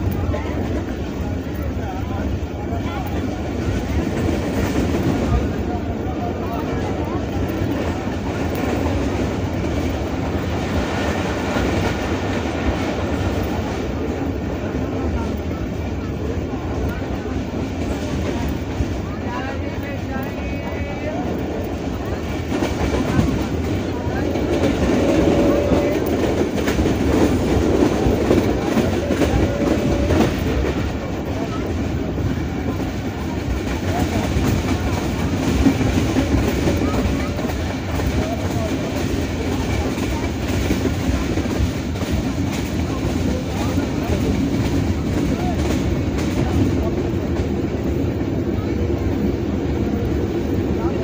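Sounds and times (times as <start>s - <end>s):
rail joint clicks: 0.0s - 51.0s
train wheels rumbling on rails: 0.0s - 51.0s.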